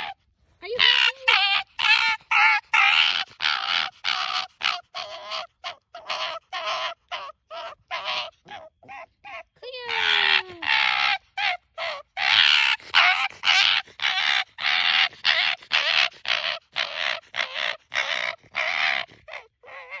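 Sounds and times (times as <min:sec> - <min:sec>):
fox raspy calls: 0:00.0 - 0:20.0.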